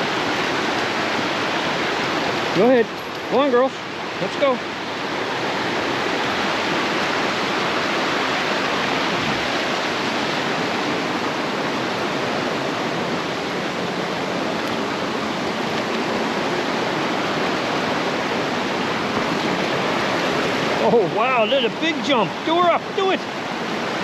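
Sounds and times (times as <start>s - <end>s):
brook water rushing over falls: 0.0s - 24.0s.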